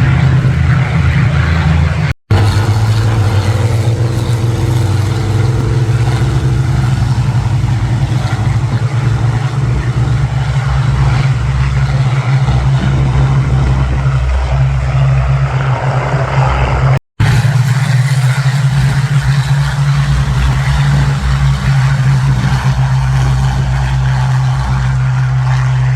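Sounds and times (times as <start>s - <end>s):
propeller planes droning overhead: 0.0s - 25.9s.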